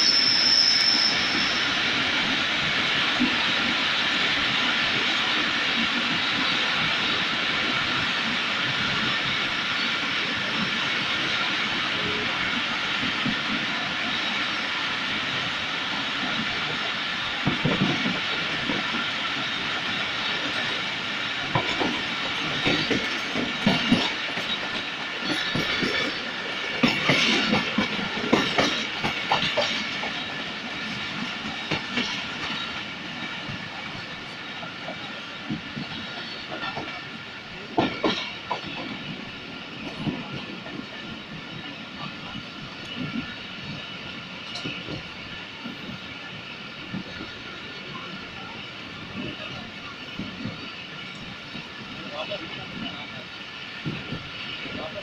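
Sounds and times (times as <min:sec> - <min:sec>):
train coach running noise: 0:00.0 - 0:55.0
wheels clacking on rails: 0:00.0 - 0:55.0.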